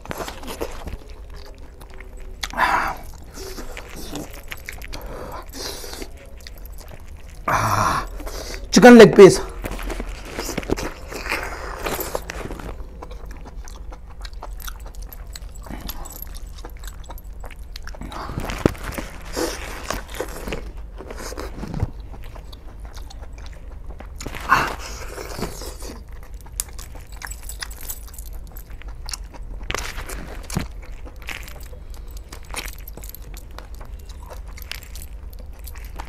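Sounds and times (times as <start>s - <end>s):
chewing and biting meat: 0.0s - 8.7s, 9.5s - 36.0s.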